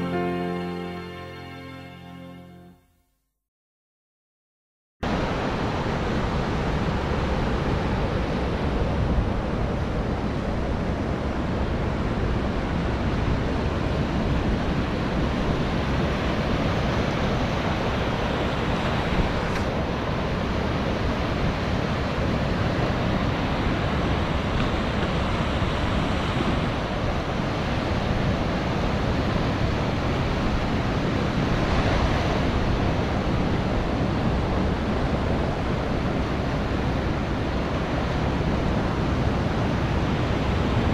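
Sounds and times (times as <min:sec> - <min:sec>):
wind rumbling on microphone: 0:05.0 - 0:40.9
ocean surf breaking: 0:05.1 - 0:40.9.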